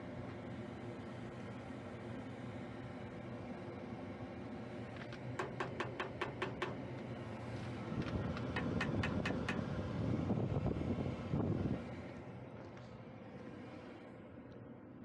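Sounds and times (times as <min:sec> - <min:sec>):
fans running: 0:00.0 - 0:15.0.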